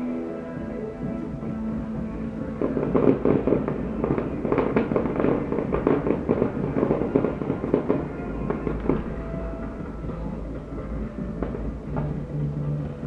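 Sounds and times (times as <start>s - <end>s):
music playing: 0.0s - 13.0s
fireworks bangs and crackles: 0.6s - 13.0s.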